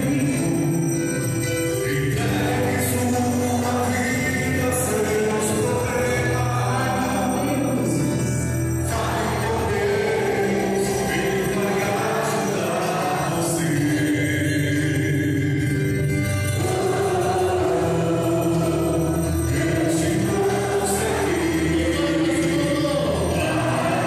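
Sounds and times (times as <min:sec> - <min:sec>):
voices singing a hymn: 0:00.0 - 0:00.9, 0:01.8 - 0:24.0.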